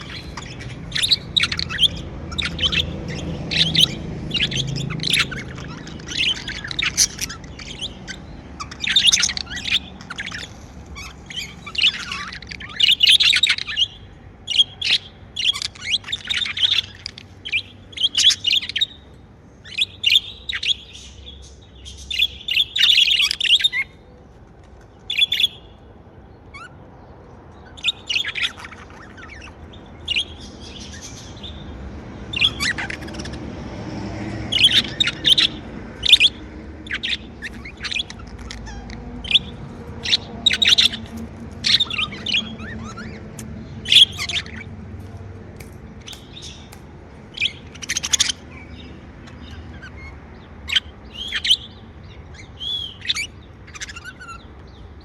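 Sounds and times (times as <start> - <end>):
budgerigars chirping: 0.0 - 24.0, 24.7 - 26.8, 27.4 - 55.0.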